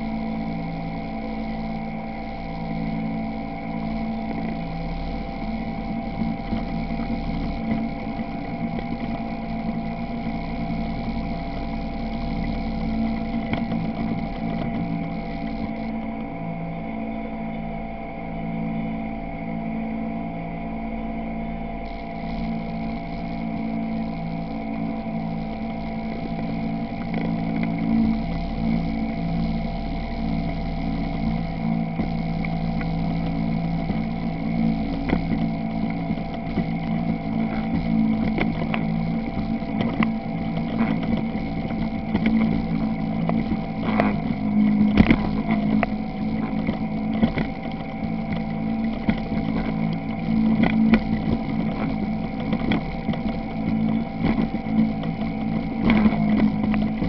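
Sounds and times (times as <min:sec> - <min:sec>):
quad bike engine droning: 0:00.0 - 0:16.0, 0:21.8 - 0:57.0.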